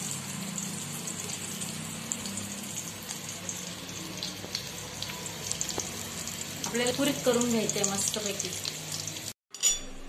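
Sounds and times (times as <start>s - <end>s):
peppers sizzling in oil: 0.0s - 9.8s.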